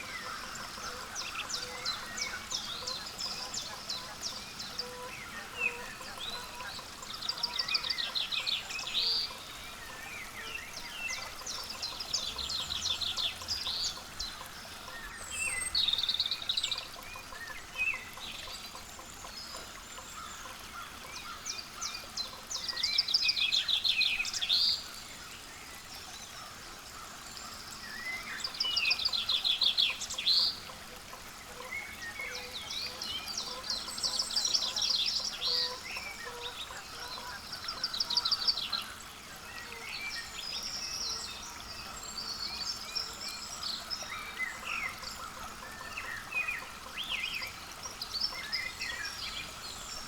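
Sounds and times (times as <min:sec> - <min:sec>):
small birds chirping faintly: 0:00.0 - 0:50.0.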